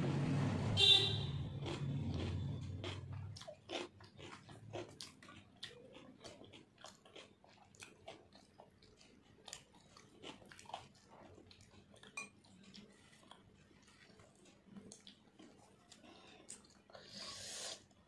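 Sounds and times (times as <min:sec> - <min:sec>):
wet chewing clicks: 0:01.4 - 0:17.2.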